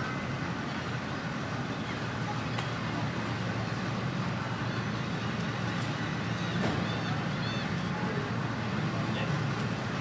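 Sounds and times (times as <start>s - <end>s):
low street rumble: 0.0s - 10.0s.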